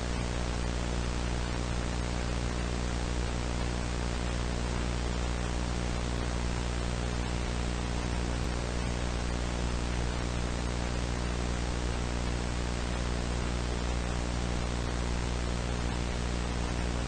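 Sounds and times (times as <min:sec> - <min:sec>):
low electrical hum: 0:00.0 - 0:17.0
tape hiss: 0:00.0 - 0:17.0.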